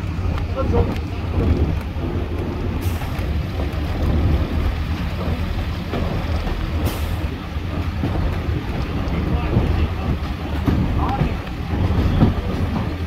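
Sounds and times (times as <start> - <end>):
train engine and wheels rumbling: 0.0 - 13.0
wind on microphone: 0.0 - 13.0.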